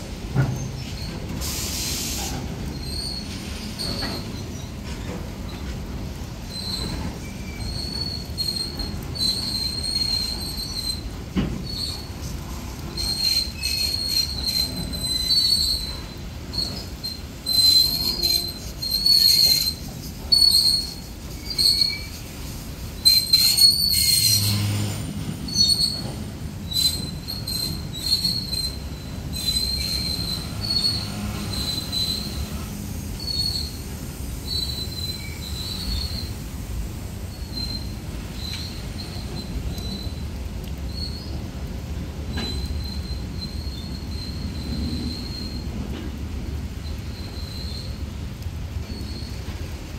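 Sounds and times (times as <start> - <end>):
train wheels squealing: 0.0 - 49.9.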